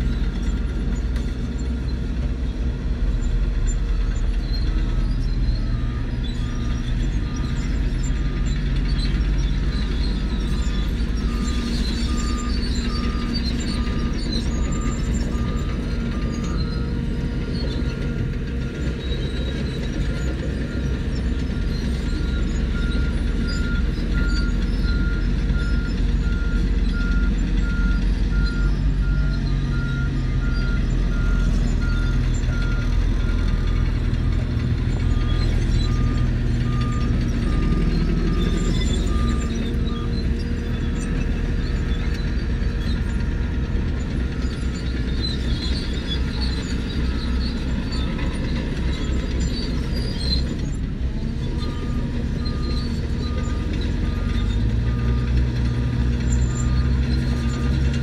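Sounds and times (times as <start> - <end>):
bulldozer diesel engines rumbling: 0.0 - 58.0
reversing alarm beeping: 4.0 - 50.5, 51.2 - 58.0.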